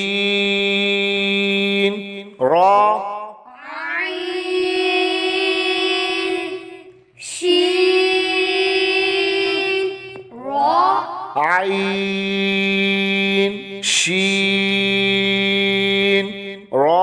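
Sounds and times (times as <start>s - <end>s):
person chanting letter names: 0.0s - 17.0s.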